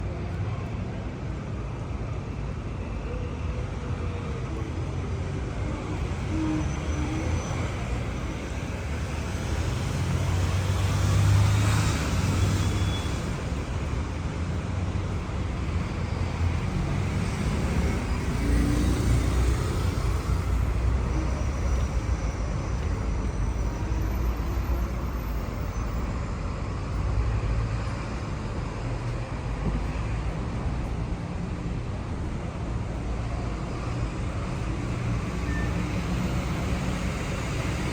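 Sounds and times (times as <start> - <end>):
road traffic rumble: 0.0 - 37.9
vehicles passing close: 7.2 - 37.9.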